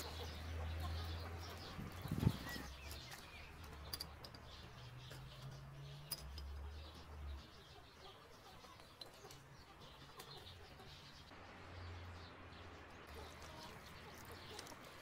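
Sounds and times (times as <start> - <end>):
distant birds calling: 0.0 - 15.0.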